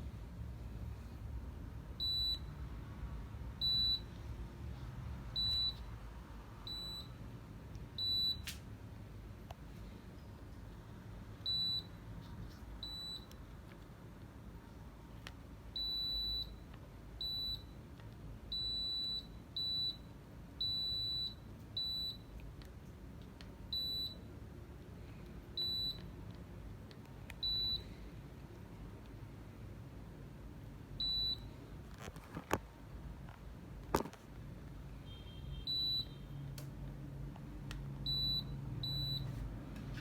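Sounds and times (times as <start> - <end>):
air conditioner beeping: 1.7 - 29.3, 30.1 - 32.6, 34.8 - 40.0.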